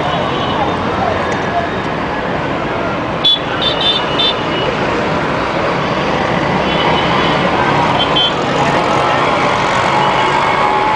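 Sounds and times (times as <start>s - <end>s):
road traffic din: 0.0s - 10.9s.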